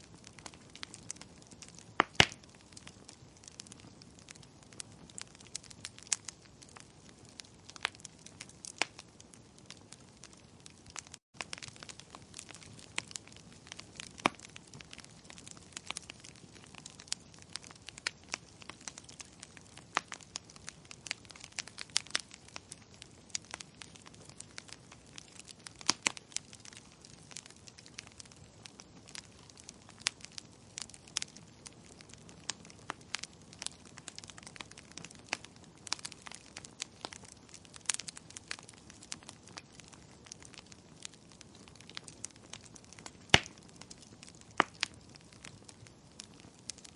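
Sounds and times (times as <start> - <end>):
firewood crackling: 0.0 - 46.9.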